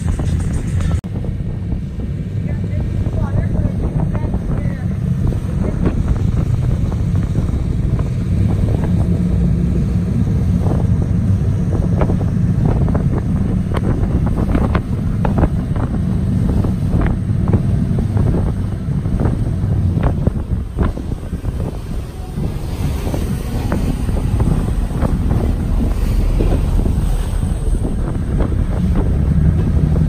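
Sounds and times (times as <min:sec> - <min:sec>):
motorboat engine running: 0:00.0 - 0:30.0
wind buffeting microphone: 0:00.0 - 0:30.0
hull slapping on water: 0:02.4 - 0:30.0.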